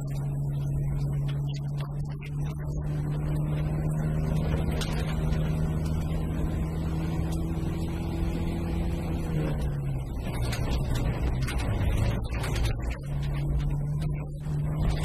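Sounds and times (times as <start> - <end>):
gravel clicking against car: 0.0 - 15.0
rally car engine at high revs: 0.0 - 15.0.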